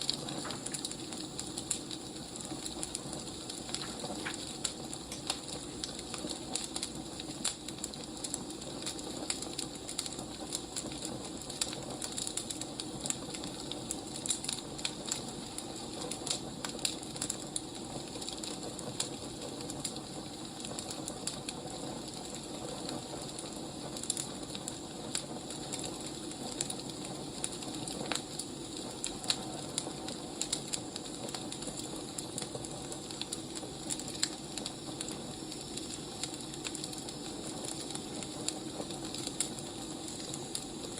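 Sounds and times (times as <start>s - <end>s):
wood snaps and crackles: 0.0s - 40.9s.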